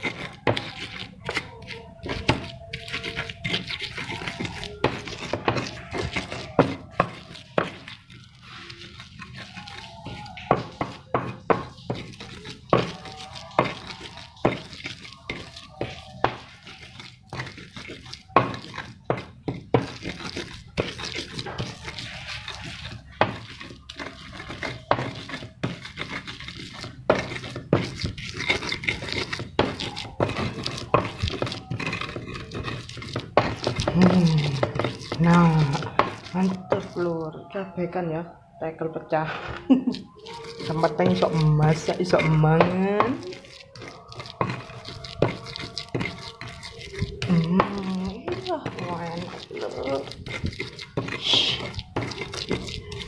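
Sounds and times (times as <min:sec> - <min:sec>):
pestle knocking on stone mortar: 0:00.0 - 0:37.2, 0:39.9 - 0:53.0
gritty scraping grind: 0:00.0 - 0:37.6, 0:39.2 - 0:53.0.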